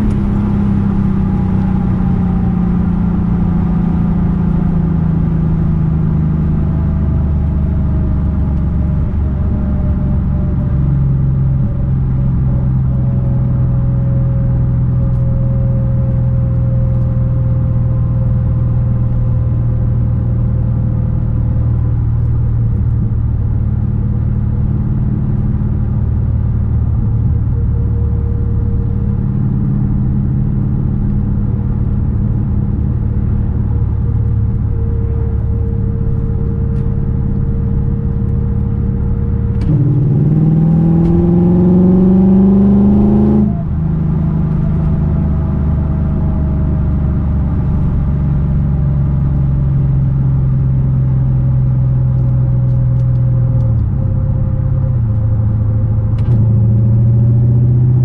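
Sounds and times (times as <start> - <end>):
car engine droning inside cabin: 0.0 - 58.0.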